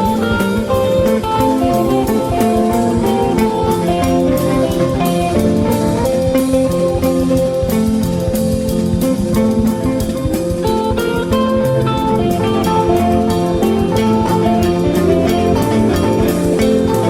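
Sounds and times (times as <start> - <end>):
drum kit beat: 0.0 - 17.0
guitar music: 0.0 - 17.0.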